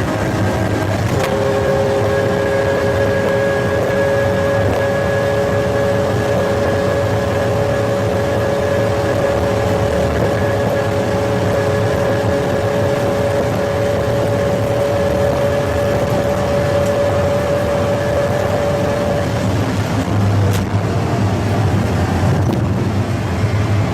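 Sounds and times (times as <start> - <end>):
sports car engine droning: 0.0 - 23.9.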